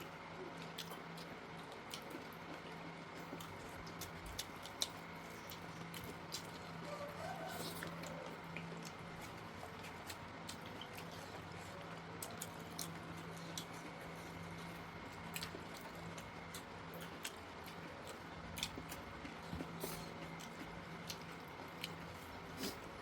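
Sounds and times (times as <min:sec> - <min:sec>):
steady low hum: 0:00.0 - 0:23.0
chewing with wet mouth clicks: 0:00.4 - 0:23.0.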